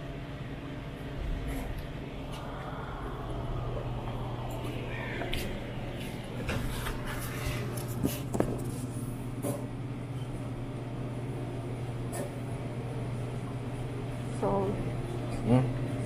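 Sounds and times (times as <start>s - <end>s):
coolers and food warmers humming: 0.0s - 16.0s.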